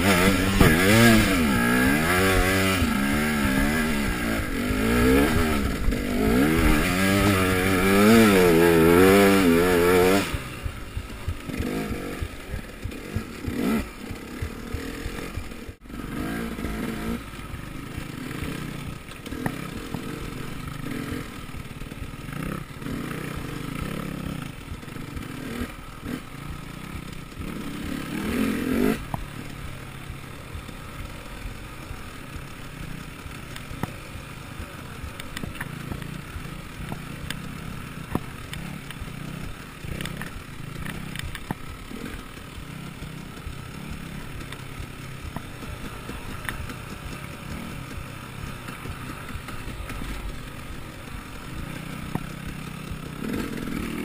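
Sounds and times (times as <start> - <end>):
dirt bike engine revving: 0.0 - 54.0
knocks and rattles from bike: 0.0 - 54.0.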